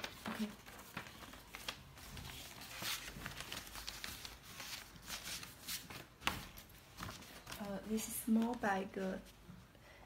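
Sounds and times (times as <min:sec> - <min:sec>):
paper and card rustling: 0:00.0 - 0:09.4.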